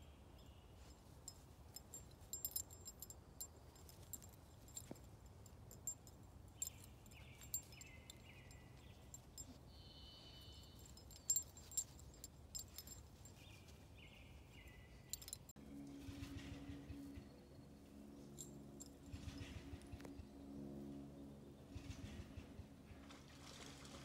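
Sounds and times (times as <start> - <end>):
faint birdsong: 0.0 - 23.3.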